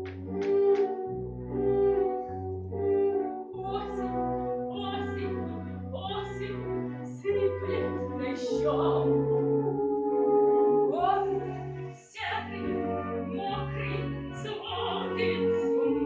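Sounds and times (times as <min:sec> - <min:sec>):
held chords over bass line: 0:00.0 - 0:16.0.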